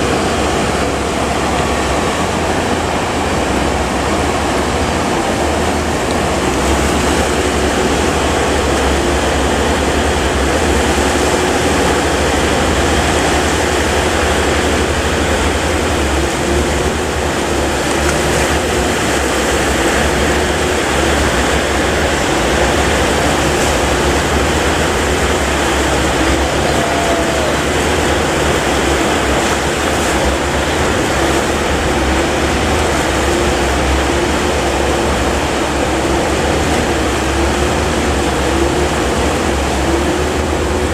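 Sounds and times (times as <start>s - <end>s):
boat engine running: 0.0s - 40.9s
waves rushing: 0.0s - 40.9s
wind: 0.0s - 40.9s.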